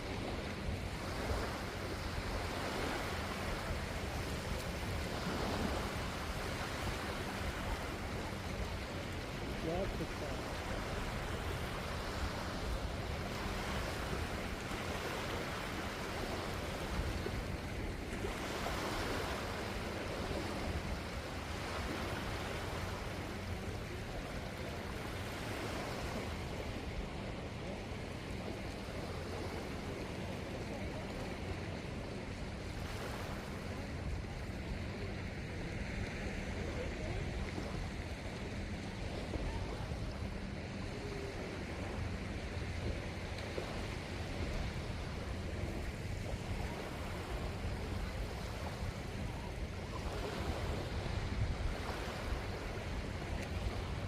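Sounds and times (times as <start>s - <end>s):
surf washing onto beach: 0.0s - 54.0s.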